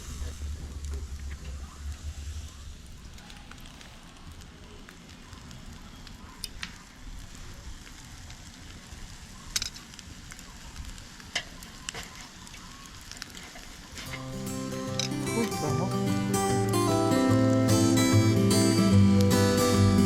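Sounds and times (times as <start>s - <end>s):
fish sizzling on a grill: 0.0s - 19.3s
fire popping and crackling: 0.0s - 20.0s.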